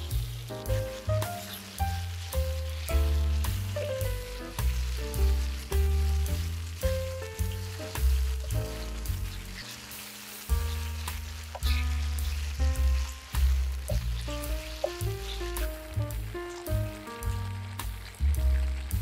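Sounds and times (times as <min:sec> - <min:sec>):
background music with bass: 0:00.0 - 0:19.0
beef sizzling in a pan: 0:00.0 - 0:19.0
wooden spatula stirring: 0:00.0 - 0:19.0.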